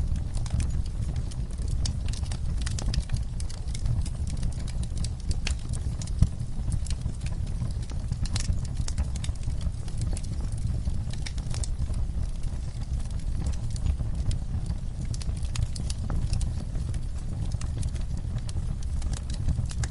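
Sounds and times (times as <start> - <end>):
fire popping and snapping: 0.0 - 19.9
low rumble of flames: 0.0 - 19.9
wood fire crackling: 0.0 - 19.9.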